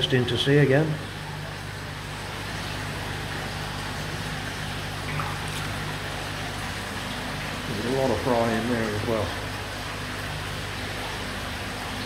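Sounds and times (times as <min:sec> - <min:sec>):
pump humming: 0:00.0 - 0:12.0
water rushing: 0:00.0 - 0:12.0.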